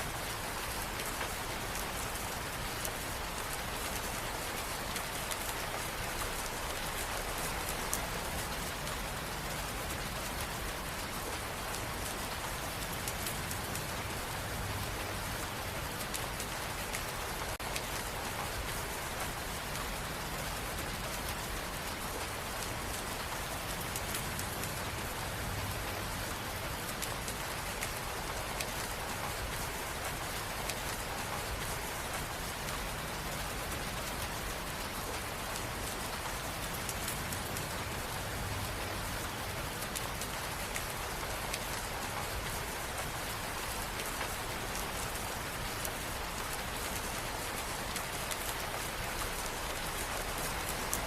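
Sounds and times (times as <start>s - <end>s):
steady rain hiss: 0.0s - 51.0s
raindrop ticks: 0.7s - 51.0s.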